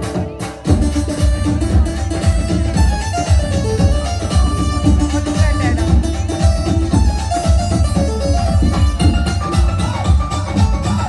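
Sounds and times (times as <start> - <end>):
folk instrumental melody: 0.0 - 11.0
steady low beat: 0.0 - 11.0.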